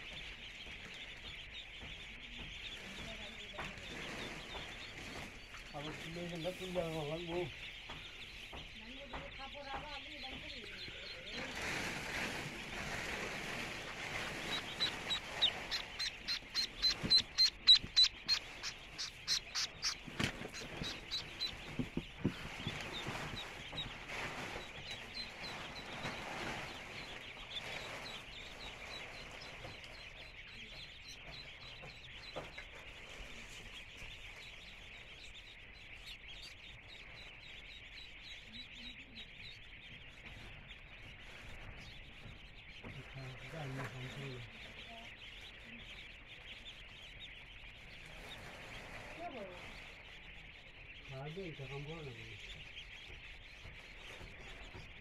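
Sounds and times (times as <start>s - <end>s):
ducklings peeping: 0.0s - 55.0s.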